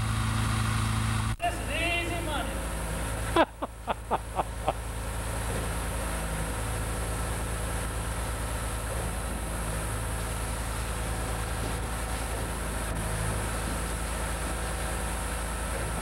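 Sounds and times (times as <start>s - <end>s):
concrete pump engine drone: 0.0s - 16.0s.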